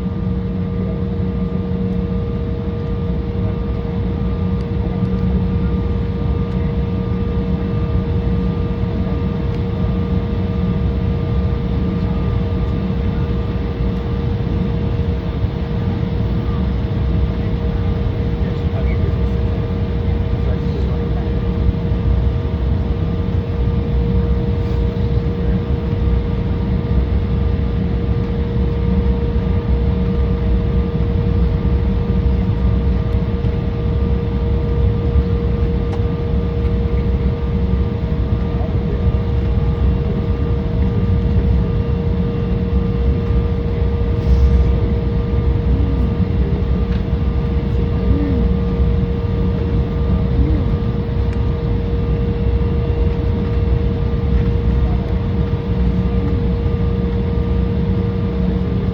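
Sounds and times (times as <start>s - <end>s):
jet engines heard from cabin: 0.0s - 58.9s.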